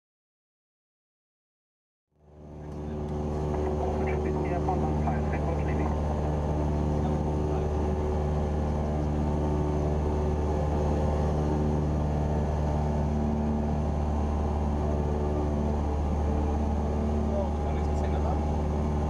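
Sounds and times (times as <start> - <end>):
airplane engine droning in cockpit: 2.2 - 19.0.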